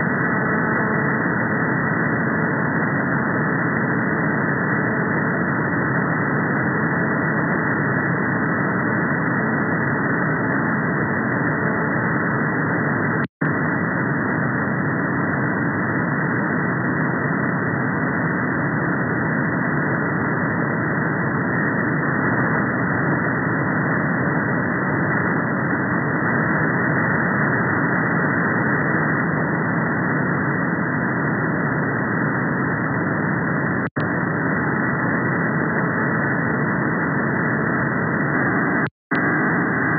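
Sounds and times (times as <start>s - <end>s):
radio receiver hiss: 0.0s - 39.9s.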